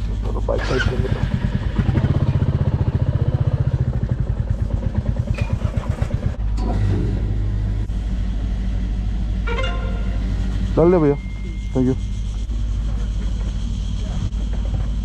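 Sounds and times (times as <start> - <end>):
motorcycle engine idling: 0.0 - 15.0
steady low hum: 0.0 - 15.0.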